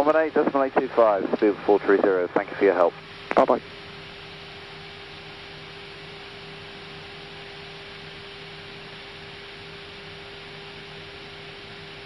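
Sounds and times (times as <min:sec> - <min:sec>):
constant electrical hum: 0:00.0 - 0:12.0.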